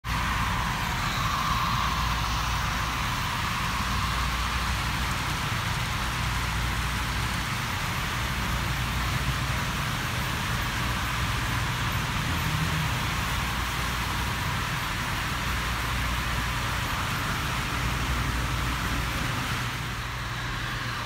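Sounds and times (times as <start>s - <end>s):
model trains whirring: 0.0s - 21.0s.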